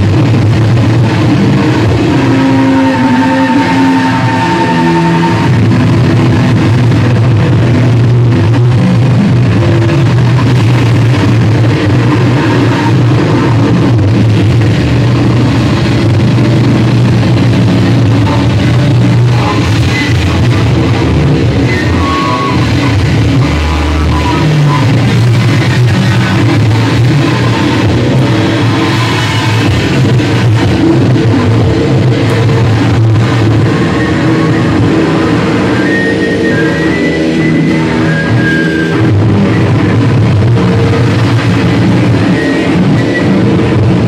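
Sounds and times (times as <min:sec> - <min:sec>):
live rock music electric guitars: 0:00.0 - 0:44.0.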